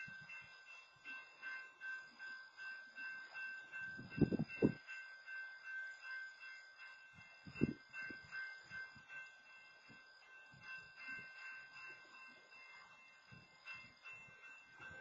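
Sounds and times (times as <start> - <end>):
crossing warning bell: 0.0 - 15.0.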